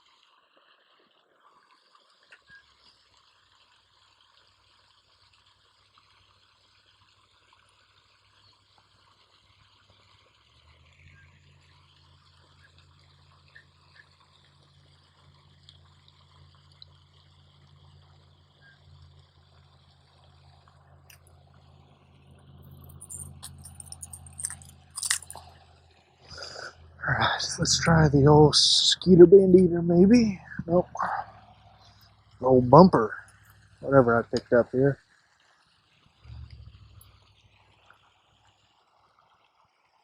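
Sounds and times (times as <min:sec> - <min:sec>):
low steady hum: 0:01.2 - 0:35.0, 0:36.0 - 0:38.8.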